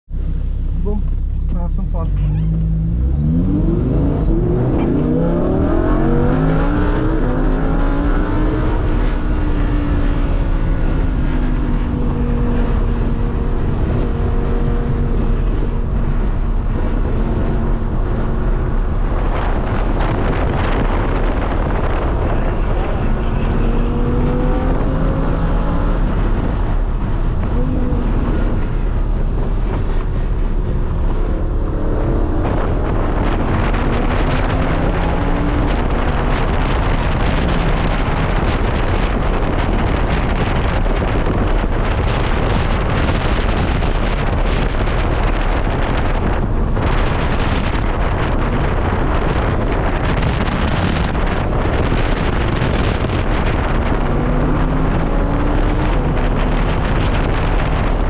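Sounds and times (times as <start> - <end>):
wind and road rush: 0.0 - 58.0
sports car engine accelerating: 0.1 - 58.0.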